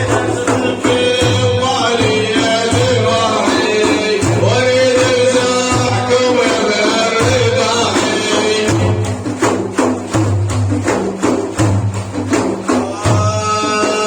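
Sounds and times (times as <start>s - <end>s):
frame drums beating: 0.0s - 14.0s.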